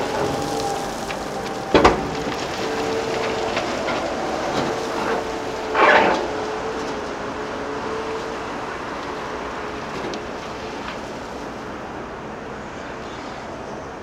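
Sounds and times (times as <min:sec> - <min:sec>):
earthmoving machinery engine hum: 0:00.0 - 0:14.0.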